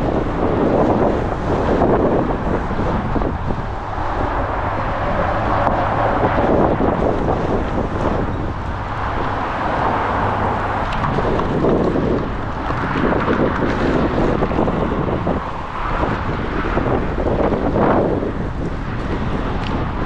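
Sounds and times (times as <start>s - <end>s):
strong gusty wind buffeting microphone: 0.0s - 20.0s.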